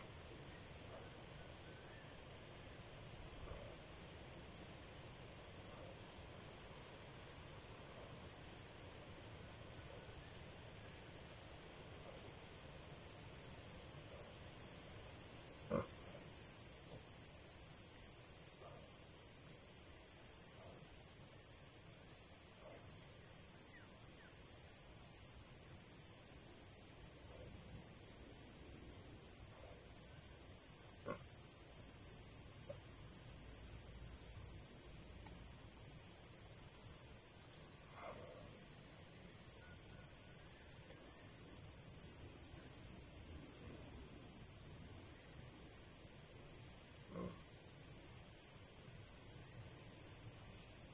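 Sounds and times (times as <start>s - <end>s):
insects chorus: 0.0s - 50.9s.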